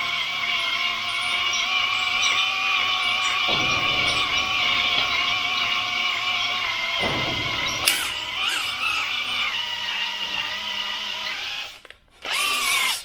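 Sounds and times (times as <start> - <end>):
electric drill whine: 0.0 - 13.0.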